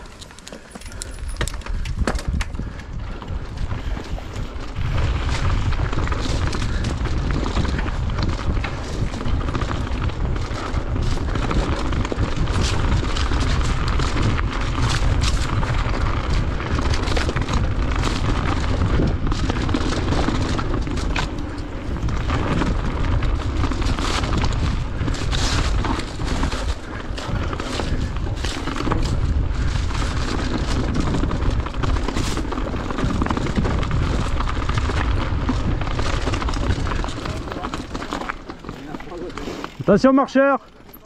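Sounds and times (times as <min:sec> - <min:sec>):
bike rattling clicks and knocks: 0:00.0 - 0:41.0
tyres crunching over stones: 0:00.0 - 0:41.0
wind buffeting microphone: 0:00.9 - 0:40.0.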